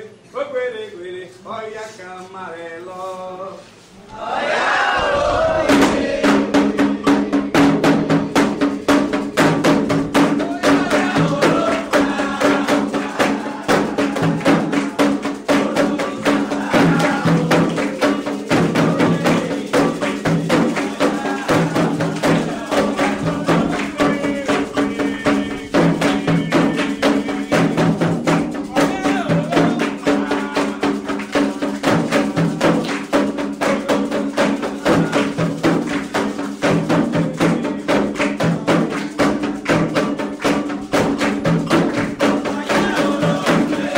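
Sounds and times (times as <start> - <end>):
voices singing: 1.2 - 43.9
hand drums in fast rhythm: 5.0 - 43.9.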